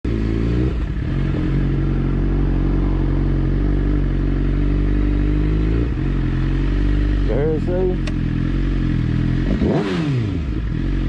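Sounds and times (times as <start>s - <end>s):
motorcycle engine idling: 0.1s - 11.0s.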